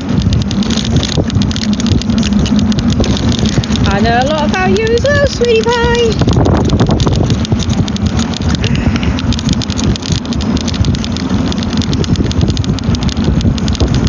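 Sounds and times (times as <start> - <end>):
mobility vehicle rumbling: 0.0 - 14.0
small clicks and rattles: 0.0 - 14.0.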